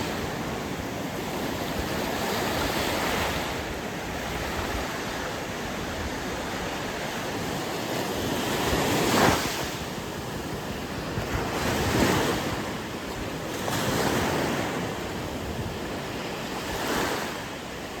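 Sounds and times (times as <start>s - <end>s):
wind on microphone: 0.0s - 17.9s
sea waves washing ashore: 0.0s - 18.0s.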